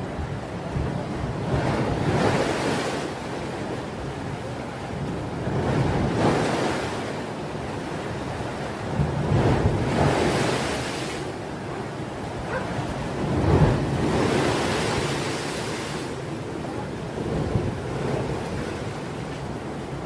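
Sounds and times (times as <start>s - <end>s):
waves surging and breaking: 0.0s - 20.0s.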